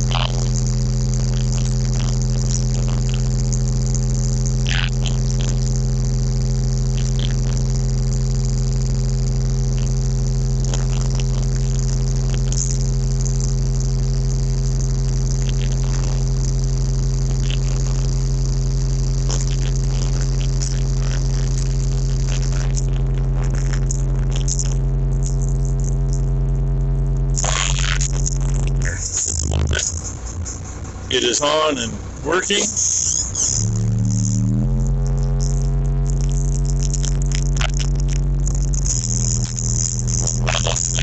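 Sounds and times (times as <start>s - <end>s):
engine droning: 0.0s - 41.0s.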